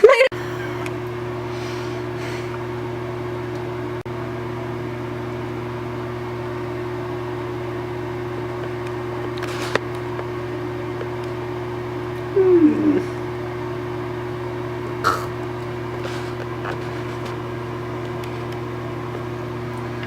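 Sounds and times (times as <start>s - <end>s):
appliance humming: 0.0s - 20.0s.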